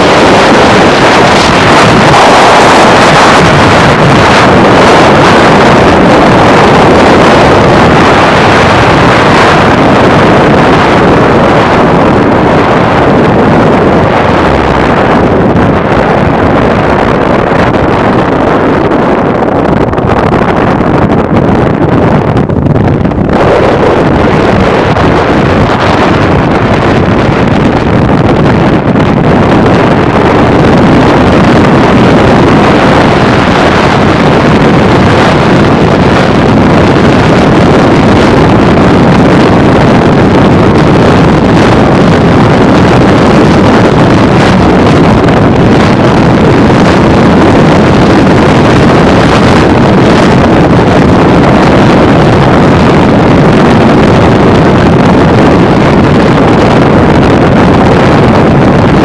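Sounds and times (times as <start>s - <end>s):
car road noise: 0.0s - 59.0s
wind rushing: 0.0s - 59.0s.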